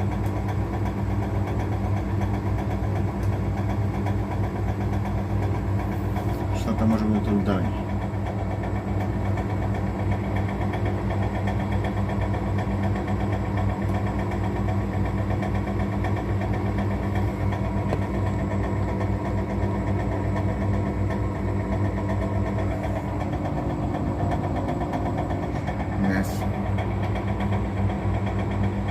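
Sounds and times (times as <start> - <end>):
washing machine motor hum: 0.0 - 28.9.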